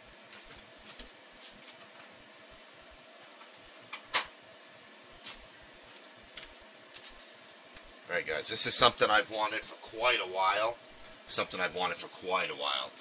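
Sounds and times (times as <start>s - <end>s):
fan-like room hum: 0.0s - 13.0s.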